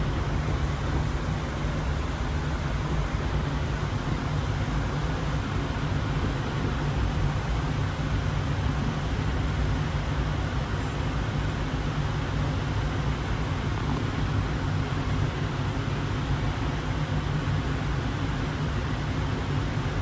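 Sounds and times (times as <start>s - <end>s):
light rail train rumbling: 0.0s - 20.0s.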